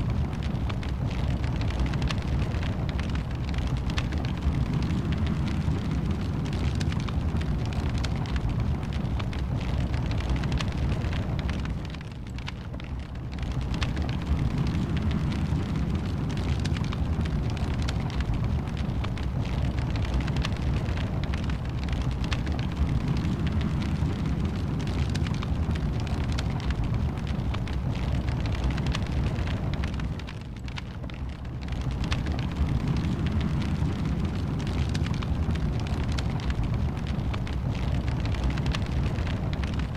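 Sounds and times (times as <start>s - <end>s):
wood fire burning and crackling: 0.0s - 39.9s.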